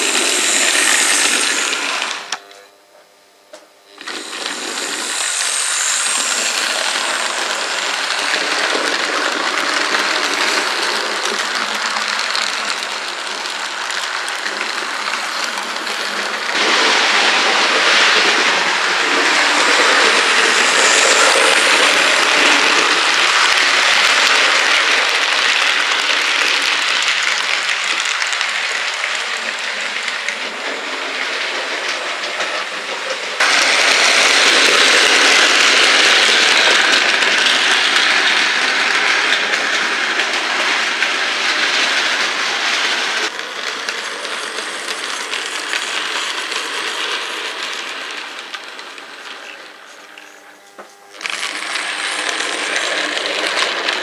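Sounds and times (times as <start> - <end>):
model train wheels rattling: 0.0 - 2.4, 3.9 - 50.4, 51.2 - 54.0.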